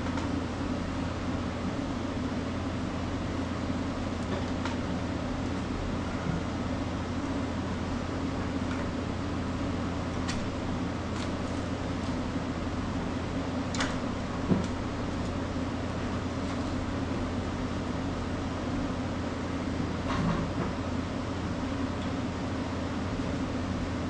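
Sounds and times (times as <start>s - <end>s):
machinery humming: 0.0s - 24.0s.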